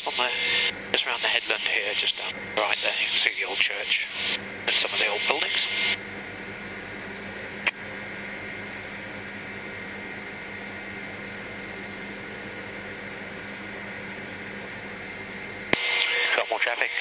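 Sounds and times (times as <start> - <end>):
helicopter cabin hum: 0.0 - 17.0.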